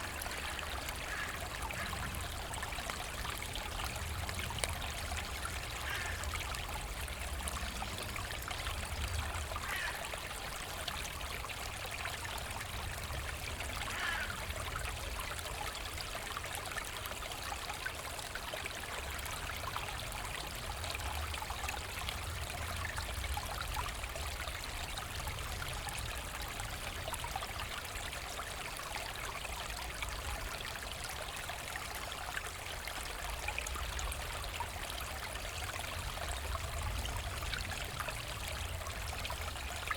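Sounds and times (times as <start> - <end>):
brook trickling: 0.0 - 39.9.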